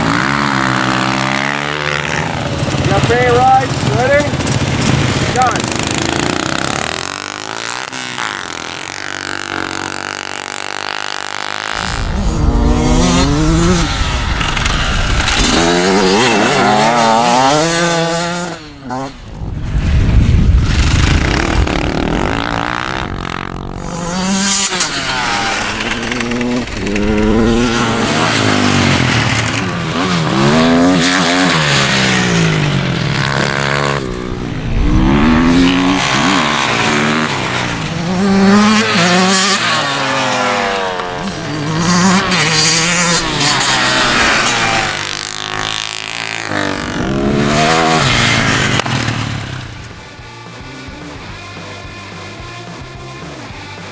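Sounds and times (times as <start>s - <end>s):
racing motorcycle engines revving: 0.0s - 53.9s.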